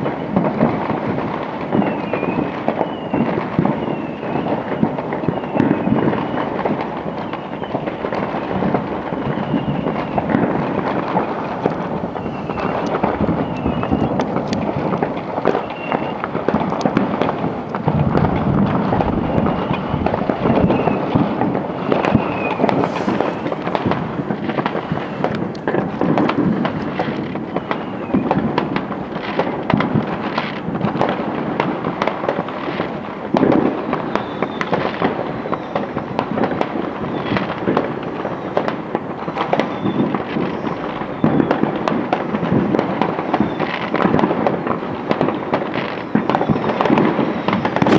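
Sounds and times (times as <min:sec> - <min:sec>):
fireworks bangs and crackling: 0:00.0 - 0:47.9
fireworks whistles: 0:00.0 - 0:47.9.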